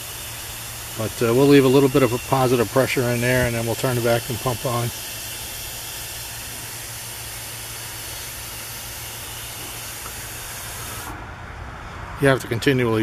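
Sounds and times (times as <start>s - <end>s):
gas hissing from hose: 0.0s - 11.2s.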